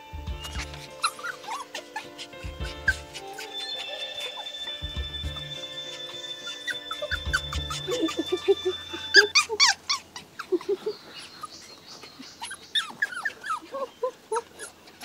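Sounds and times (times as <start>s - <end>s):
puppies yipping and whimpering: 0.3s - 15.0s.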